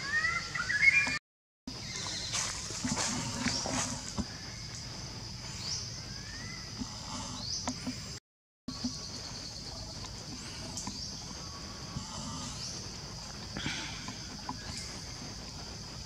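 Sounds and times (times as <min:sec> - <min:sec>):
high insect drone: 0:01.7 - 0:16.0.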